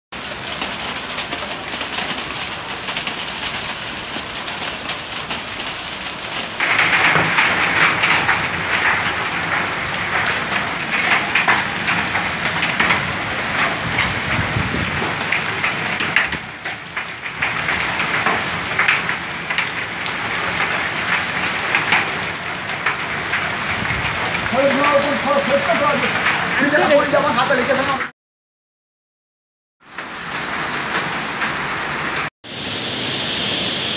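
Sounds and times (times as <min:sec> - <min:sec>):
hail and rain falling: 0:00.2 - 0:28.1, 0:29.9 - 0:32.3.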